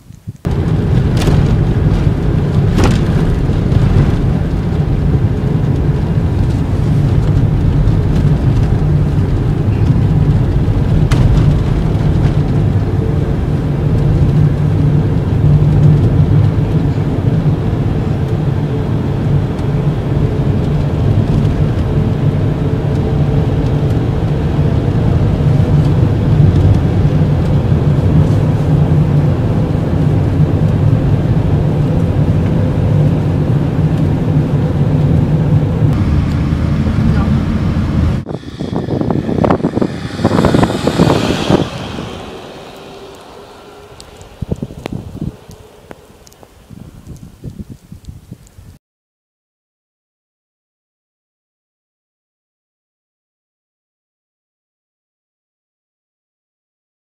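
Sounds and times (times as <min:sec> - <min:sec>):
van engine and tyre rumble: 0:00.0 - 0:48.8.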